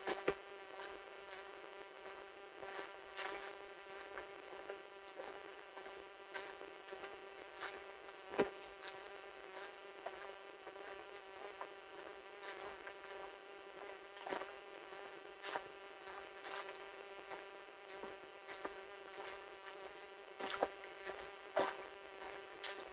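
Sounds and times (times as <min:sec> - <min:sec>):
footsteps on leafy dirt trail: 0:00.0 - 0:22.9
steady buzzing drone: 0:00.0 - 0:22.9.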